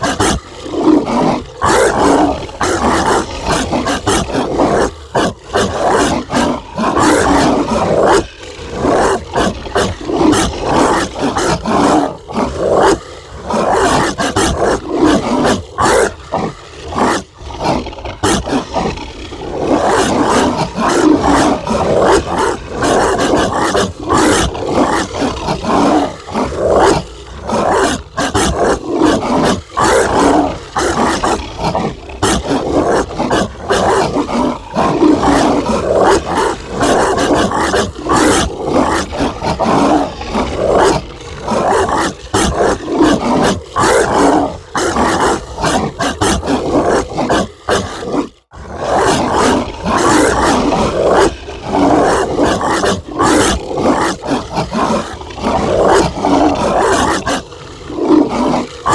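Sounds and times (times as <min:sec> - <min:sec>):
harsh dog barks: 0:00.0 - 0:58.9.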